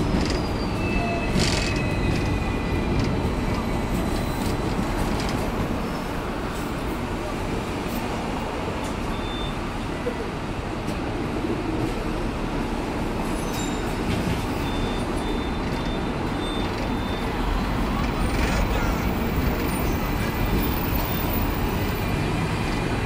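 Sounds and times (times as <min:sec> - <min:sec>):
tram rumbling along tracks: 0:00.0 - 0:23.0.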